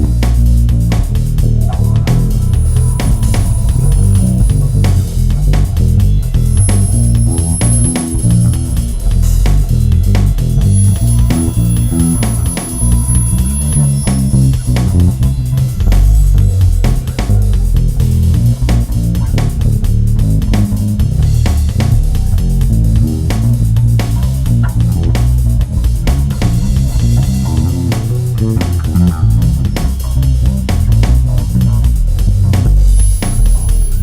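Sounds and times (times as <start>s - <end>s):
drum beat: 0.0s - 34.0s
low plucked string notes: 0.0s - 34.0s.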